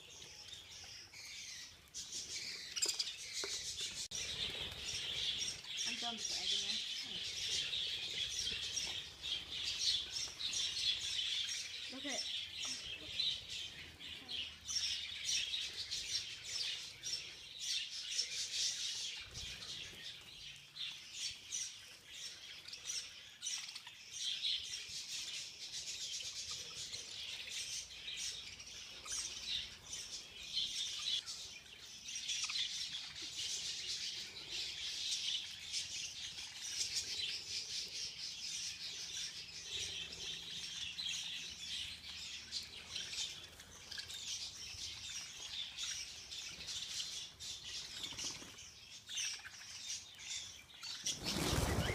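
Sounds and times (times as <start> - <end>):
budgerigars chirping: 0.0 - 51.9.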